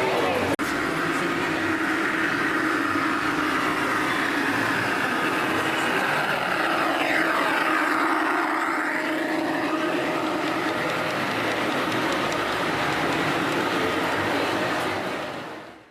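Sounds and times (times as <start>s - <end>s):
model train running on track: 0.0s - 15.9s
train motor whine: 0.0s - 15.9s.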